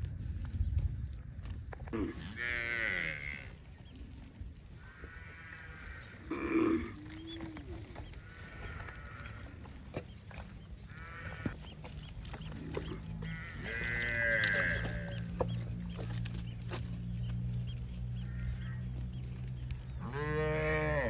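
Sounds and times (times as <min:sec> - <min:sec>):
livestock calling: 0:01.9 - 0:21.0.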